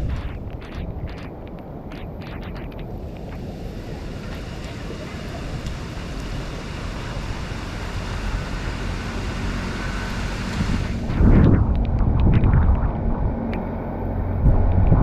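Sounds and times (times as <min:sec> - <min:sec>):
low rumbling noise: 0:00.0 - 0:15.0
wind on microphone: 0:00.0 - 0:15.0.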